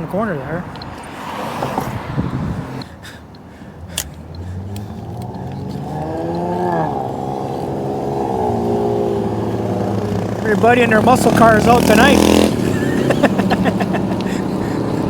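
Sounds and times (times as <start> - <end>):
car engine accelerating: 0.6 - 15.0.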